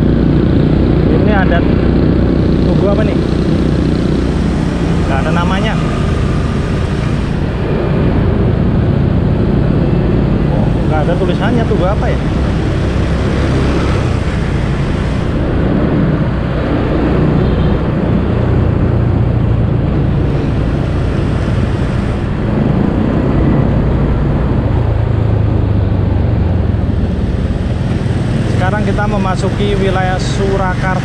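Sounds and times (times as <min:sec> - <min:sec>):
scooter engine running: 0:00.0 - 0:31.0
traffic hum: 0:00.0 - 0:31.0
wind rush on microphone: 0:00.0 - 0:31.0.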